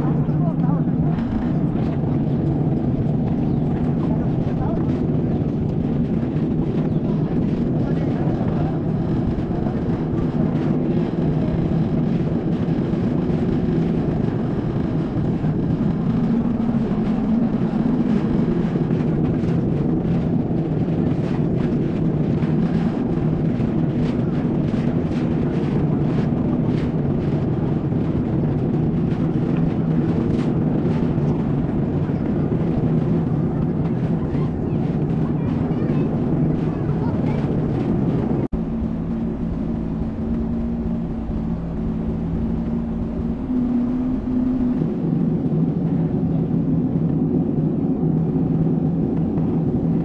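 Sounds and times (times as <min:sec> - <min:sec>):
jet ski engine humming: 0:00.0 - 0:47.6.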